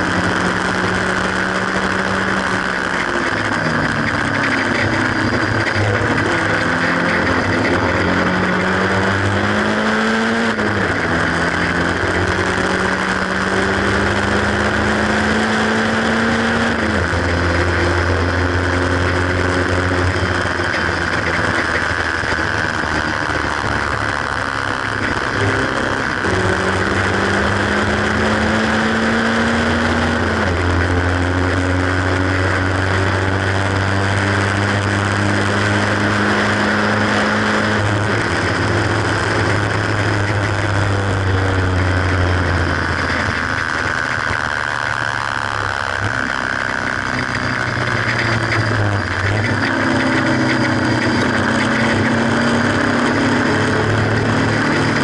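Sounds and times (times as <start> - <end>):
car engine driven hard: 0.0 - 55.0.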